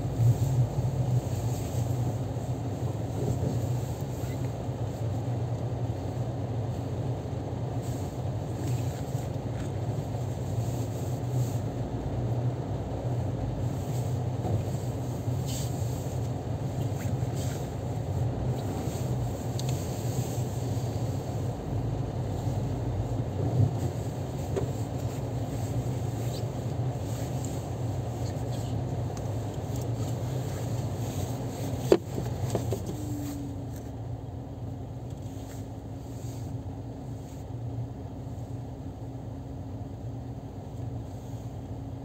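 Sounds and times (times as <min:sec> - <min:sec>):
car engine idling: 0:00.0 - 0:37.2.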